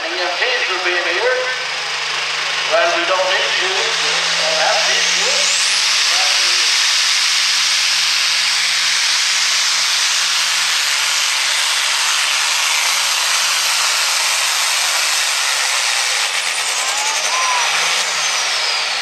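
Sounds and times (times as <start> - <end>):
diesel tractor engine at high rpm: 0.0 - 19.0.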